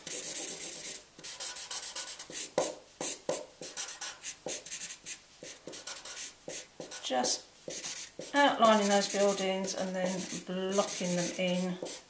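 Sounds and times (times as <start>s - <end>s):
marker scratching on paper: 0.0s - 12.0s.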